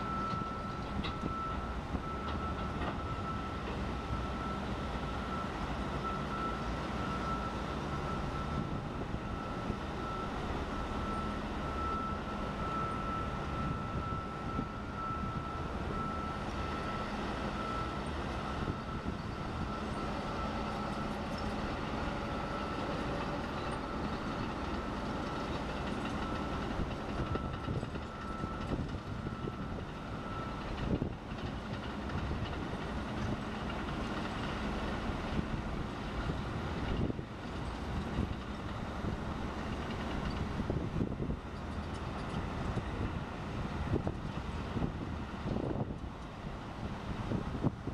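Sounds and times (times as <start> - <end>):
diesel engines droning: 0.0 - 47.9.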